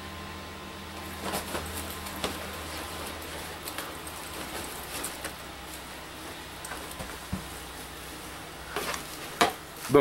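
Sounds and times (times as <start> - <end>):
steady low hum: 0.0 - 10.0
coat rustling: 1.0 - 9.4.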